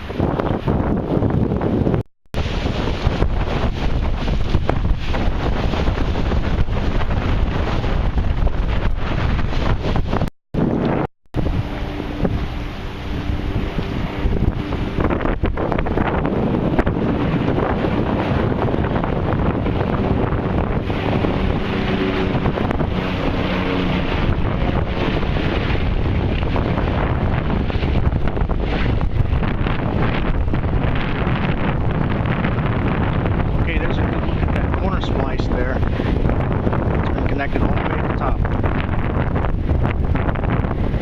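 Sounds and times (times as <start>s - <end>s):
strong wind buffeting microphone: 0.0s - 41.0s.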